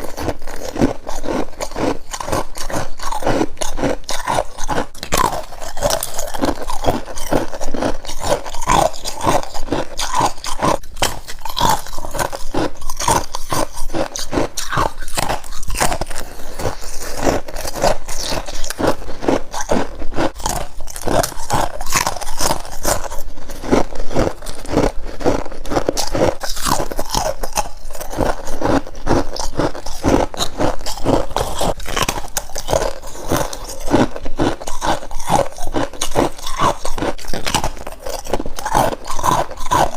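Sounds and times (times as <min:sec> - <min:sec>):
frost being bitten and chewed: 0:00.0 - 0:39.9.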